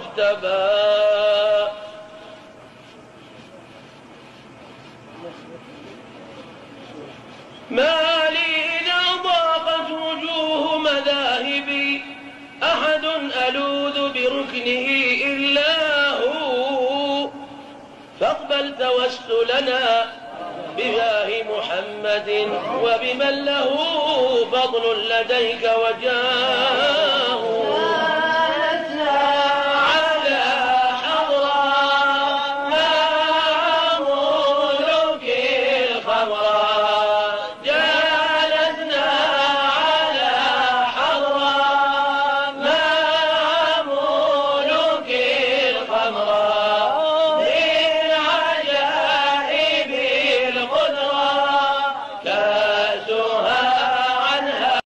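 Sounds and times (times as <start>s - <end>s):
man chanting: 0.0s - 2.4s, 6.8s - 54.8s.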